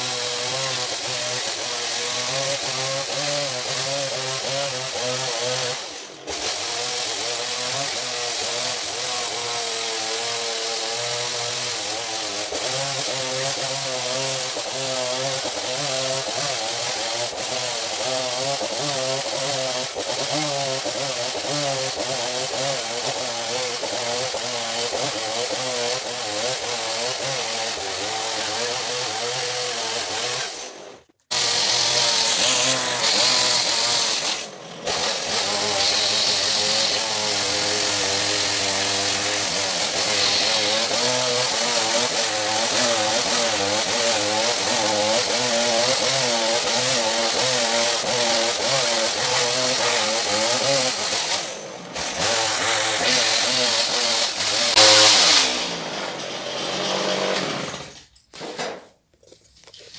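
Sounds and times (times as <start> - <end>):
chainsaw cutting logs: 0.0 - 59.0.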